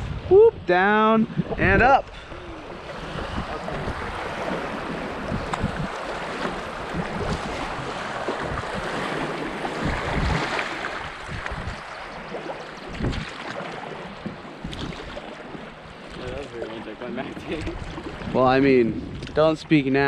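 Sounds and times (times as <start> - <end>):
wind buffeting microphone: 0.0 - 20.0
paddle strokes splashing: 1.3 - 19.4.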